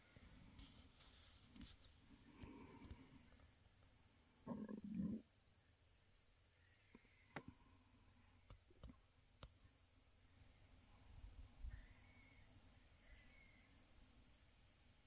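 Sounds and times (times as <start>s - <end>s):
faint high insect drone: 0.0s - 15.0s.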